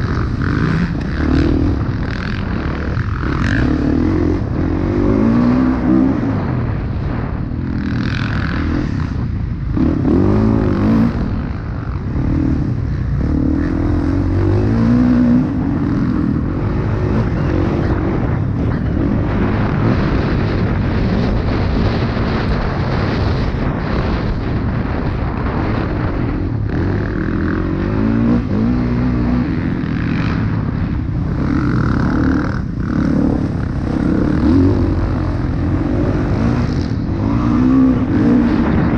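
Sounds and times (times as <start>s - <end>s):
motocross bike engine revving: 0.0s - 38.9s
wind buffeting microphone: 0.0s - 38.9s.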